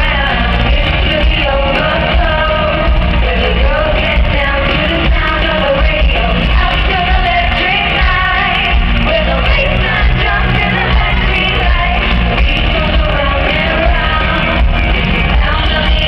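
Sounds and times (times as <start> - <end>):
live band music with heavy bass: 0.0 - 16.0
woman singing lead vocals: 0.0 - 16.0.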